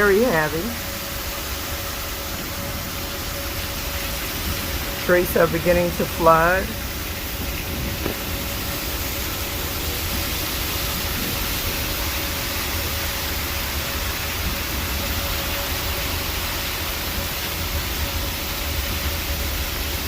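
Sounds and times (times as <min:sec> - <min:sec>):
low rumble: 0:00.0 - 0:16.4
distant warning siren: 0:00.0 - 0:20.0
heavy rain pouring: 0:00.0 - 0:20.0.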